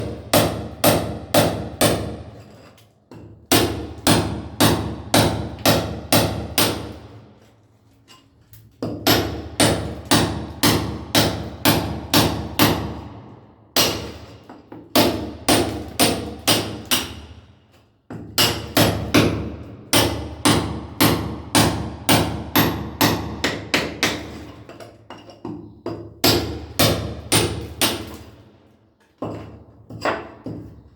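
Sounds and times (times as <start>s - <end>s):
sledgehammer striking chisel: 0.0s - 7.1s, 8.8s - 13.1s, 13.8s - 17.4s, 18.1s - 28.4s.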